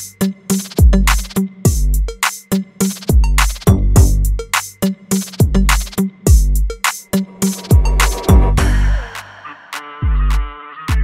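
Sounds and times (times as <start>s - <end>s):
drum machine beat: 0.0s - 11.0s.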